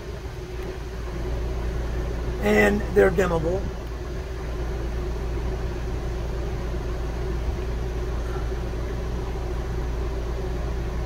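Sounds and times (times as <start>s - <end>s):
faint even whine: 0.0s - 11.0s
low machine hum: 0.0s - 11.0s.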